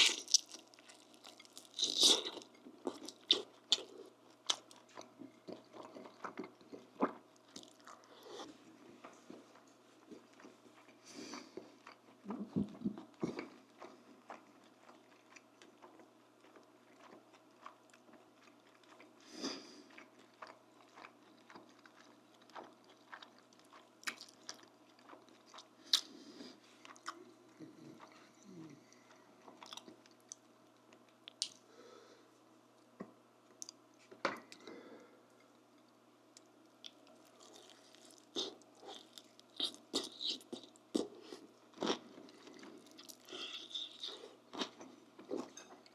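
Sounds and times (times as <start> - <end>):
person chewing and crunching food: 0.0 - 31.7, 33.5 - 45.9.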